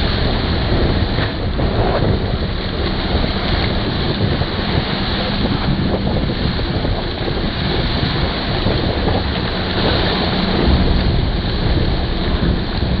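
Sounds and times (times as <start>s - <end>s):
water spraying off boat hull: 0.0s - 13.0s
wind buffeting microphone: 0.0s - 13.0s.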